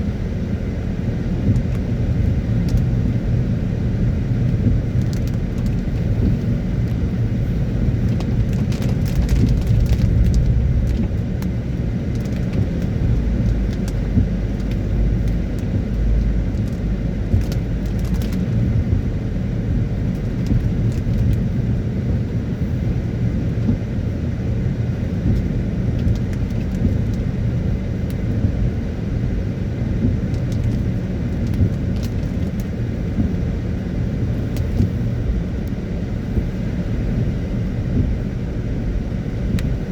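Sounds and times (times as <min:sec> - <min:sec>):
car driving on wet road: 0:00.0 - 0:39.9
light ticks of rain: 0:00.7 - 0:39.9.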